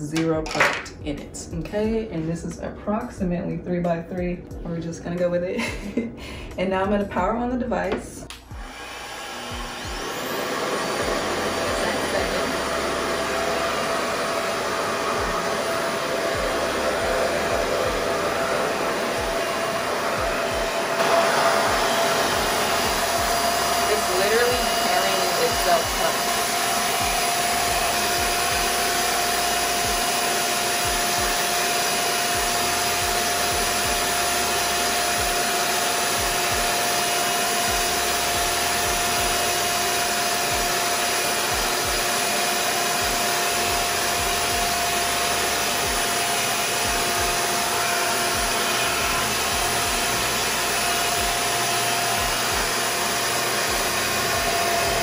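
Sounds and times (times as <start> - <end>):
hair dryer whooshing and whining: 4.6 - 7.0, 7.8 - 55.0.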